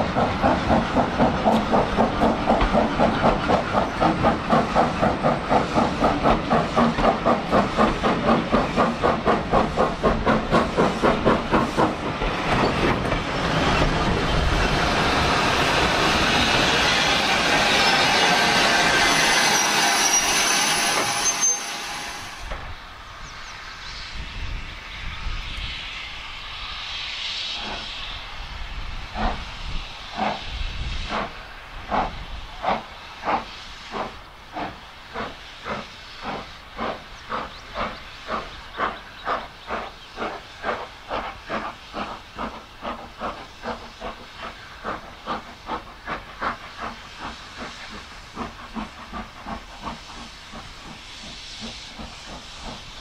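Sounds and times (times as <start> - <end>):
steam exhaust beats: 0.0 - 53.0
steam locomotive hissing: 0.0 - 53.0.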